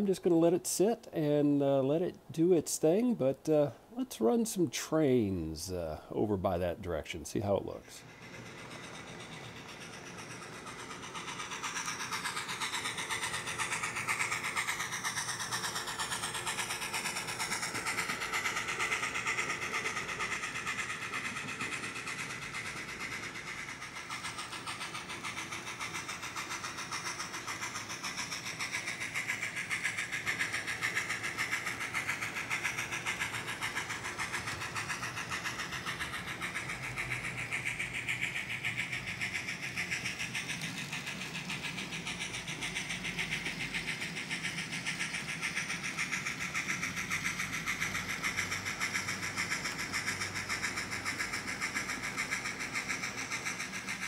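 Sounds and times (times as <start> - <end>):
model train motors whirring: 0.0 - 54.0
wheels clicking over rail joints: 7.4 - 54.0.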